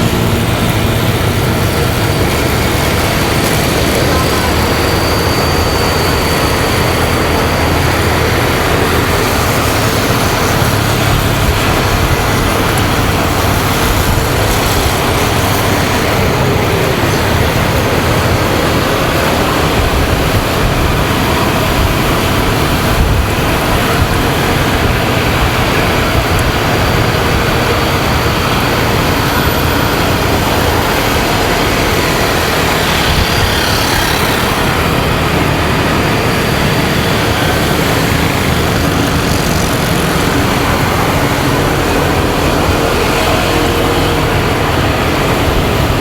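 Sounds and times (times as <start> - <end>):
motorcycle engine running: 0.0 - 46.0
road traffic: 0.0 - 46.0
wind rushing over microphone: 0.0 - 46.0.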